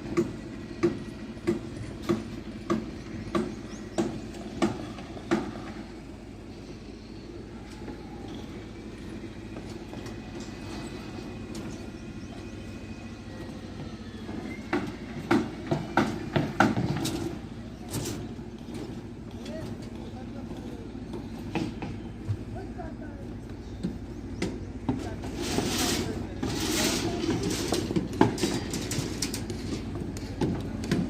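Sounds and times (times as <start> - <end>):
construction site noise: 0.0 - 31.0.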